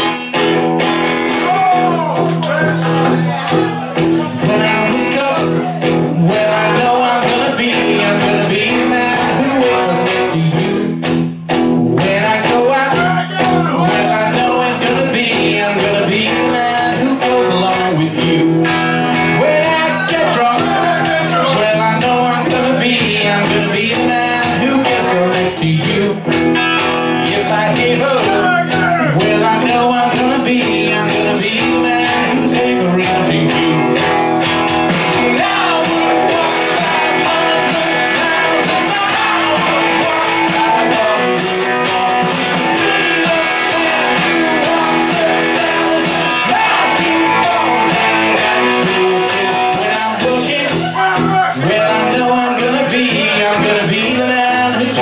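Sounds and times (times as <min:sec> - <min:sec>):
live rock band playing: 0:00.0 - 0:55.0
lead singer singing: 0:01.3 - 0:55.0.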